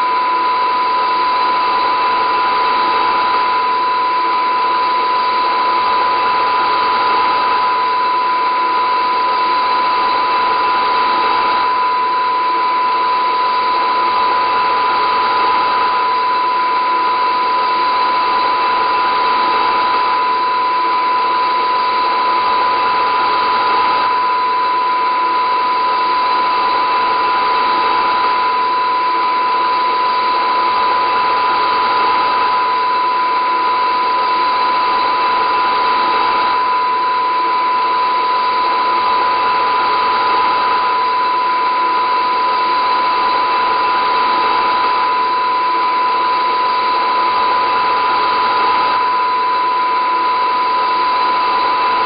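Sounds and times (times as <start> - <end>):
constant high whine: 0.0 - 52.0.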